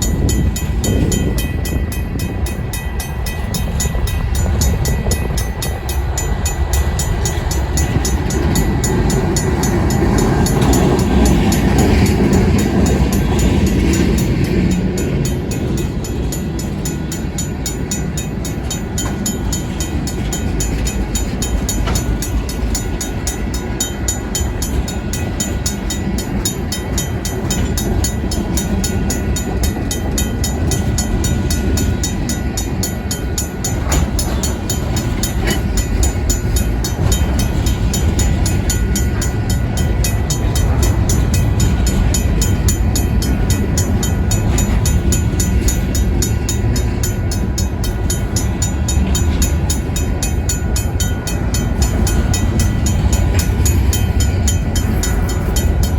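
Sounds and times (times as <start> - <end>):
crossing bell ringing: 0.0 - 55.9
freight train rumbling: 0.0 - 55.9.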